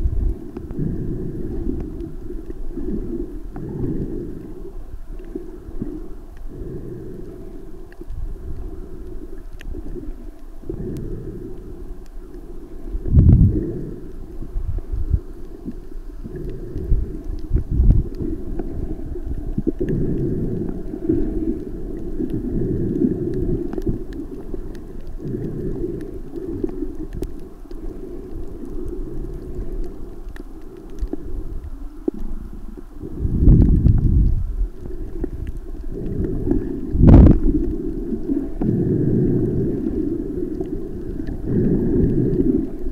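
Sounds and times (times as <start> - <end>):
underwater churning rumble: 0.0 - 42.9.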